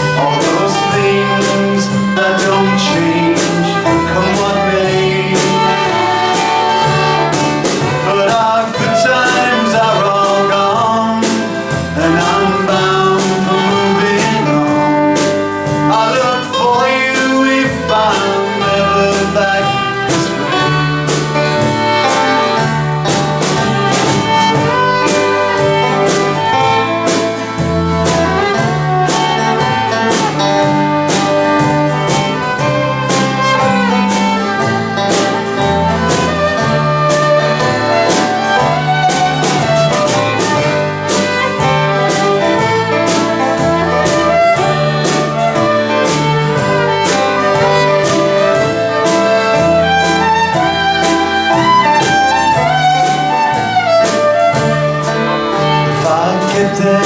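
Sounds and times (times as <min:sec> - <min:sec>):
bass line: 0:00.0 - 0:57.0
drums keeping a steady beat: 0:00.0 - 0:57.0
lead instrument melody: 0:00.0 - 0:57.0.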